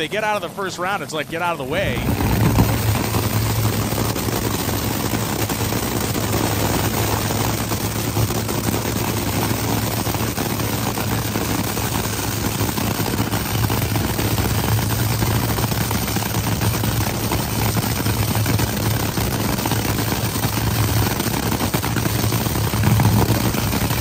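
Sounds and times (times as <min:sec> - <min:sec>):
dragster engine idling with crackle: 0:00.0 - 0:24.0.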